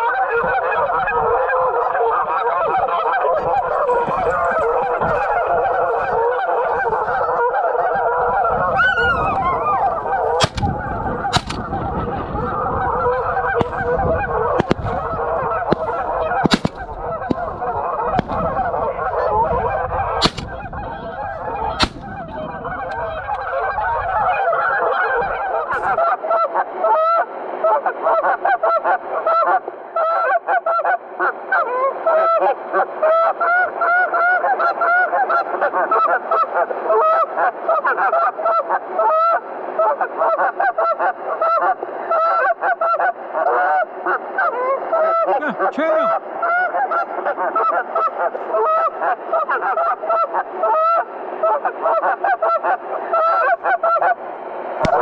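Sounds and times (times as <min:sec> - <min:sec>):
flock of geese honking: 0:00.0 - 0:54.2.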